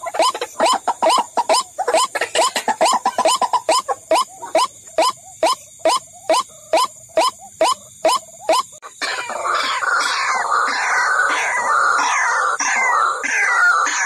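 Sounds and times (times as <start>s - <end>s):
dense chatter of bird calls: 0.0s - 14.0s
harsh bird calls: 0.0s - 14.0s.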